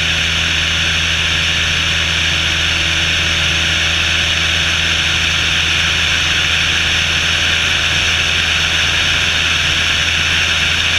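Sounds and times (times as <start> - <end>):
propeller plane engine droning: 0.0 - 10.9.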